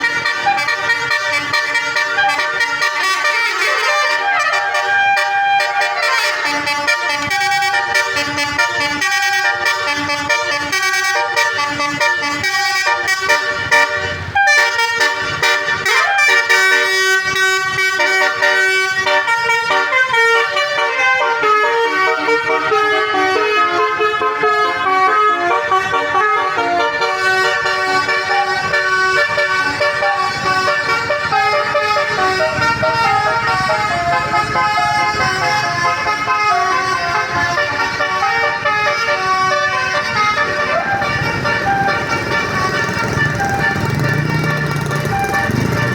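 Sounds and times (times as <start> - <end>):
multi-tone bus horn tune: 0.0 - 45.9.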